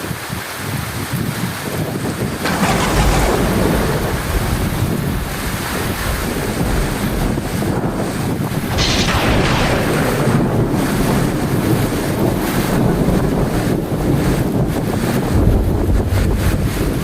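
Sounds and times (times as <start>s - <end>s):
heavy rain pouring: 0.0s - 17.0s
thunder rumbling: 1.9s - 17.0s.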